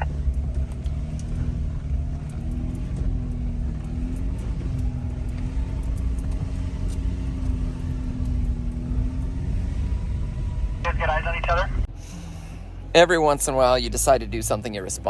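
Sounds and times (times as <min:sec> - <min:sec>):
off-road vehicle engine rumble: 0:00.0 - 0:15.0.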